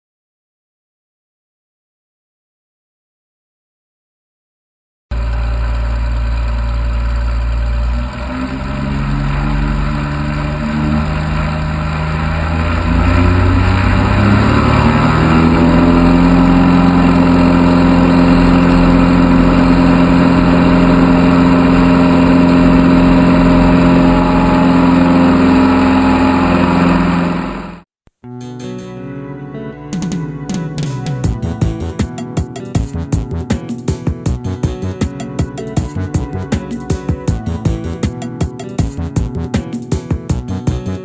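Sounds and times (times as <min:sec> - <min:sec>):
airplane engine and propeller: 0:05.1 - 0:27.8, 0:30.0 - 0:41.0.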